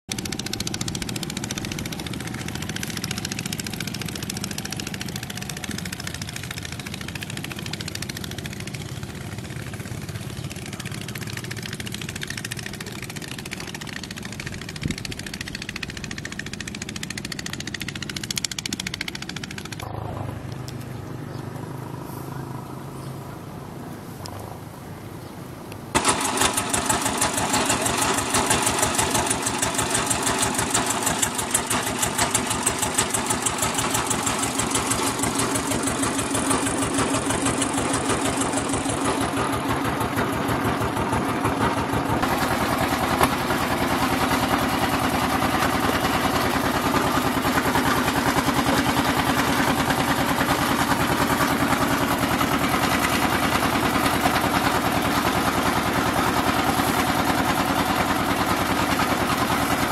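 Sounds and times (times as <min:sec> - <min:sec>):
boat engine running: 0:00.1 - 0:24.8, 0:25.9 - 0:59.9.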